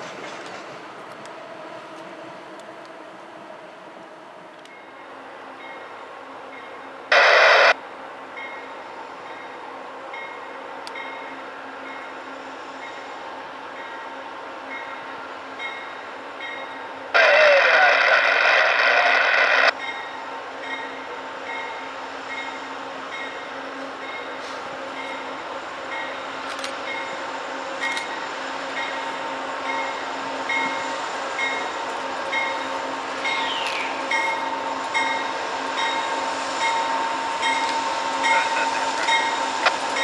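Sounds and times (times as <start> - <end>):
locomotive engine humming: 0.0 - 40.0.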